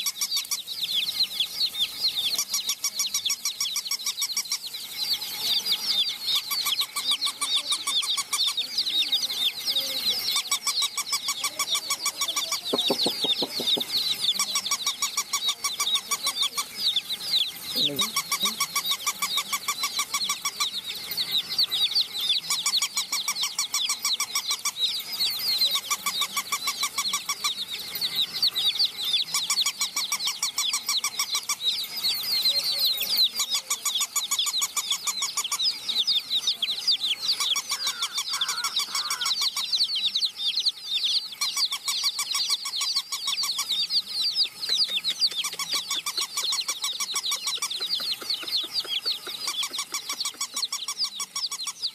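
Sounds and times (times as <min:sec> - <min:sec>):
chicks peeping: 0:00.0 - 0:51.9.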